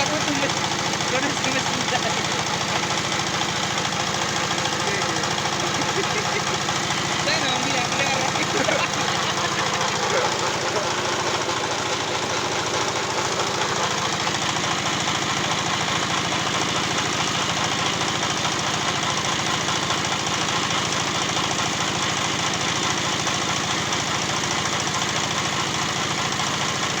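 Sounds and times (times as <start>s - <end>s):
machine engine running: 0.0s - 27.0s.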